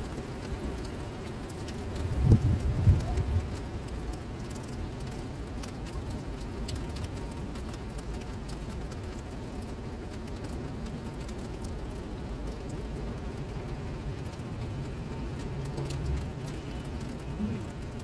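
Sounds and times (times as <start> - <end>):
constant low rumble: 0.0 - 18.0
rain drops splashing in puddle: 0.0 - 18.0.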